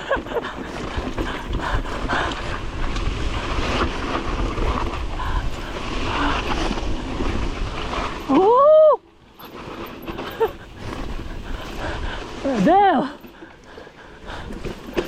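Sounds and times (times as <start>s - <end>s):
wind buffeting microphone: 0.0s - 8.6s, 10.0s - 15.0s
tyres rolling over rough ground: 0.0s - 15.0s.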